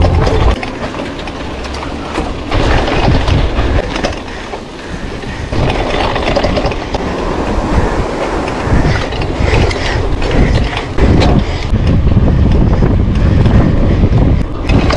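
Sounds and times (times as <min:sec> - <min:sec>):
bike clattering rattle: 0:00.0 - 0:14.9
tyre and road noise: 0:00.0 - 0:14.9.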